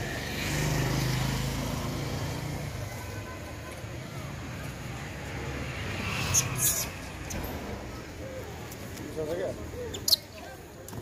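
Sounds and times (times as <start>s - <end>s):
outdoor background noise: 0.0s - 11.0s
vehicle engine rumble: 0.0s - 11.0s.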